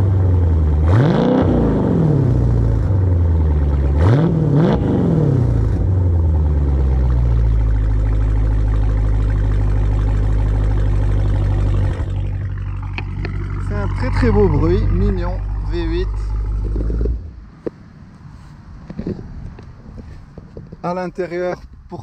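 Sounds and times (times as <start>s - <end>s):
car engine revving and idling: 0.0s - 17.7s.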